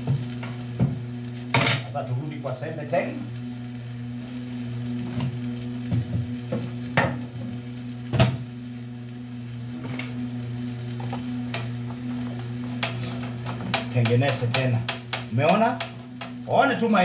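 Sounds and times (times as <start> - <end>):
food sizzling in a frying pan: 0.0 - 17.0
low hum: 0.0 - 17.0.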